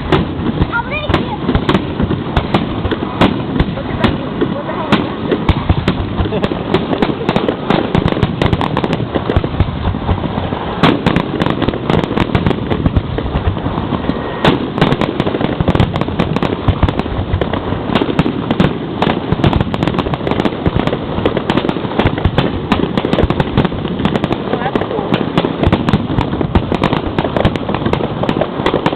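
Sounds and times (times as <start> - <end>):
fireworks bangs and crackling: 0.0 - 28.9.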